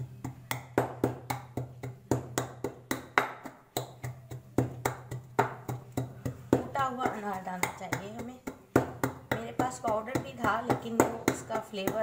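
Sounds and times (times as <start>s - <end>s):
wooden pestle pounding in mortar: 0.0s - 12.0s.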